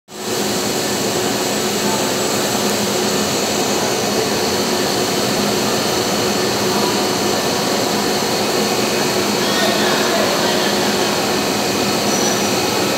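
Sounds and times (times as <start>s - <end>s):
workshop machinery drone: 0.1s - 12.9s.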